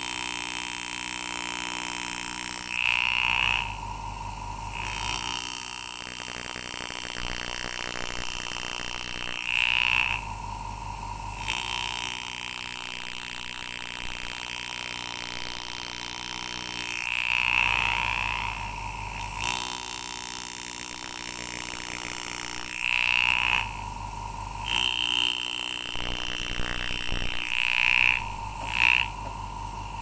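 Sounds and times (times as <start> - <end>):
graver cutting metal: 0.0 - 3.8, 4.7 - 10.3, 11.4 - 24.0, 24.6 - 30.0.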